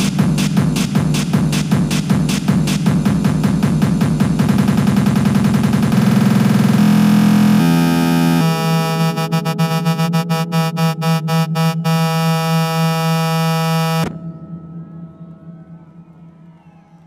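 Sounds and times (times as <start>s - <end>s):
sustained synthesizer chords: 0.0s - 17.0s.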